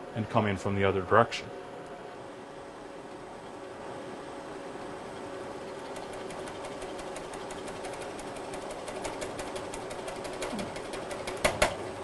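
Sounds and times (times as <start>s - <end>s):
milling spindle hum: 0.0s - 12.0s.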